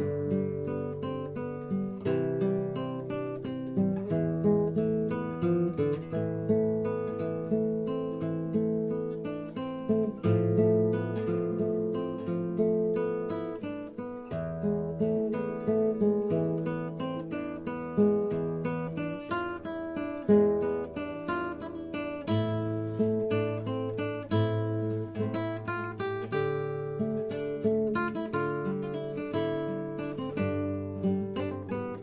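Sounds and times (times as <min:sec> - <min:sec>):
plucked string waltz: 0:00.0 - 0:32.0.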